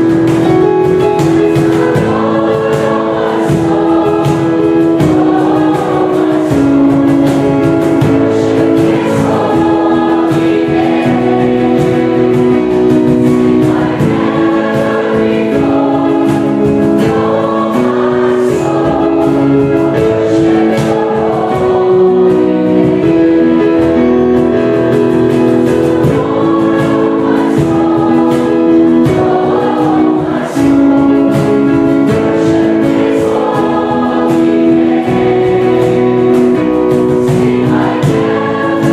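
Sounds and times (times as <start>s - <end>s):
accompaniment with steady beat: 0.0s - 38.9s
choir singing: 0.0s - 38.9s.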